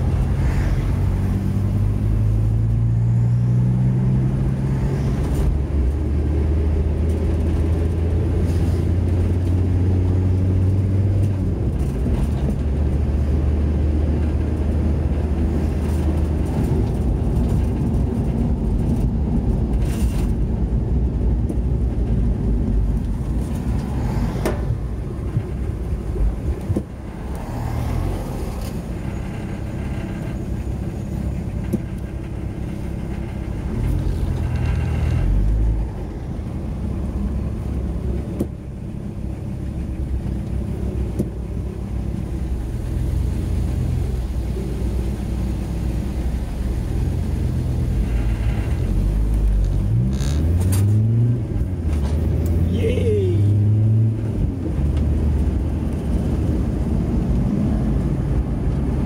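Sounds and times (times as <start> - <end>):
car engine: 0.0 - 59.0
road noise inside car: 0.0 - 59.0.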